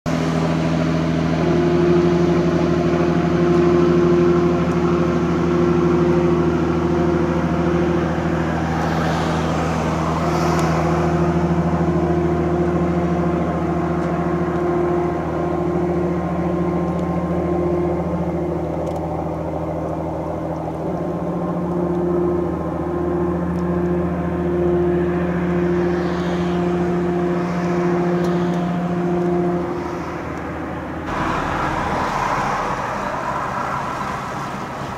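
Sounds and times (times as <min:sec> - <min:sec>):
low engine drone: 0:00.1 - 0:34.9
wavering hum: 0:00.1 - 0:34.9.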